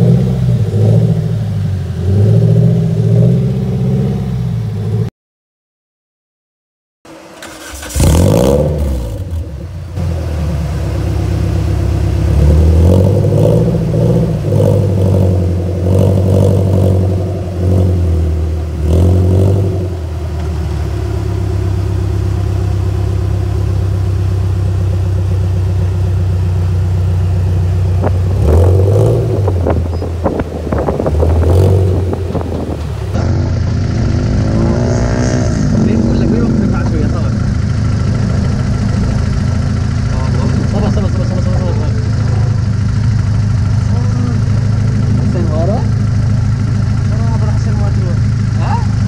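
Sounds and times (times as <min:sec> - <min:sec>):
buggy engine revving and idling: 0:00.0 - 0:05.1, 0:07.1 - 0:49.0.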